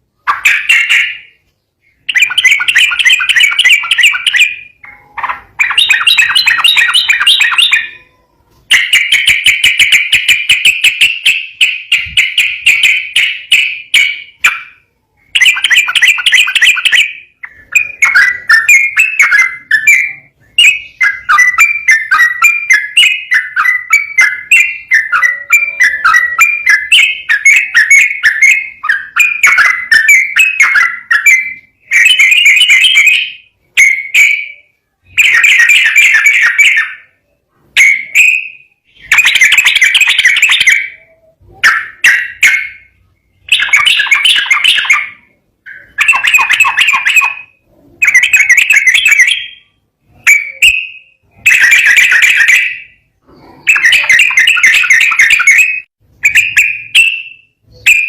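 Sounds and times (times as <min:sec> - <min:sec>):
bulbul singing rolling trills: 0:00.0 - 0:58.0.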